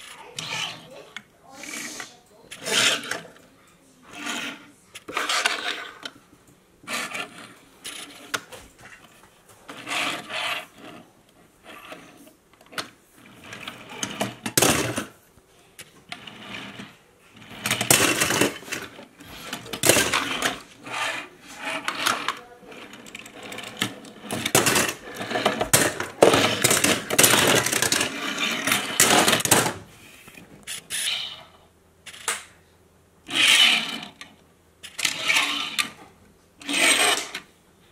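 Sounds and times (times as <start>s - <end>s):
toy car wheels rolling and rattling: 0.0s - 3.4s, 4.0s - 6.2s, 6.8s - 15.2s, 15.8s - 29.8s, 33.3s - 37.5s.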